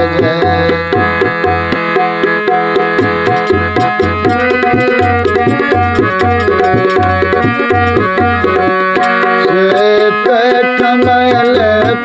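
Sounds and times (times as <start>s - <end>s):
hand drumming: 0.0s - 12.0s
reedy held melody: 0.0s - 12.0s.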